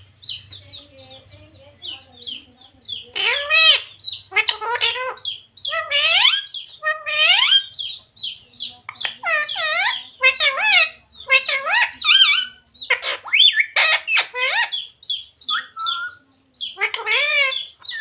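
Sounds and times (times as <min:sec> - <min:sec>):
parrot talking in squawky voice: 0:01.8 - 0:07.9, 0:08.5 - 0:18.0.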